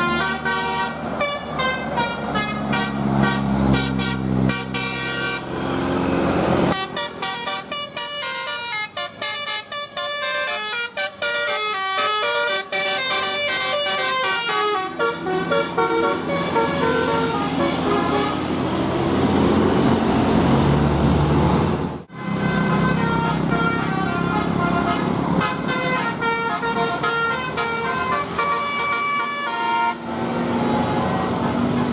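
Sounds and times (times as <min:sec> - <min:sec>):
multi-tone bus horn tunes: 0:00.0 - 0:18.9, 0:22.1 - 0:31.9.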